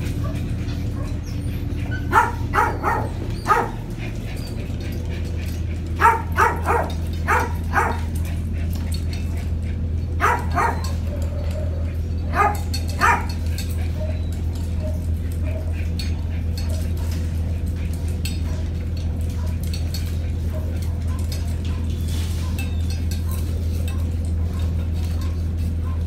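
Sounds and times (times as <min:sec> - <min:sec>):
dogs barking: 0:00.0 - 0:26.0
low hum: 0:00.0 - 0:26.0.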